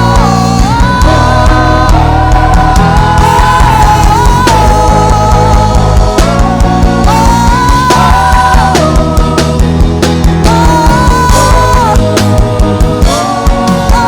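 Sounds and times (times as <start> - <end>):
steady drums: 0.0 - 14.0
sustained keyboard or guitar chords: 0.0 - 14.0
worship band playing rock: 0.0 - 14.0.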